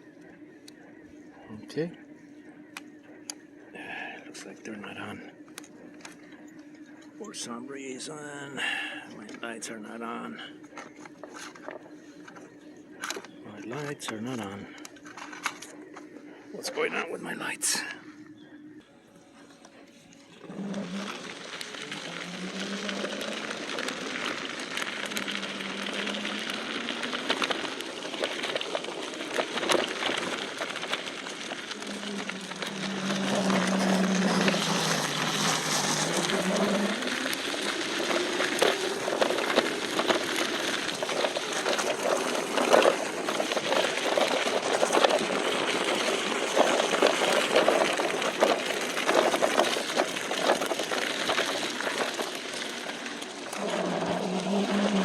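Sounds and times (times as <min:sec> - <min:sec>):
electric motor whine: 0:00.0 - 0:55.0
wheels crunching on stones: 0:03.7 - 0:18.5, 0:19.3 - 0:55.0.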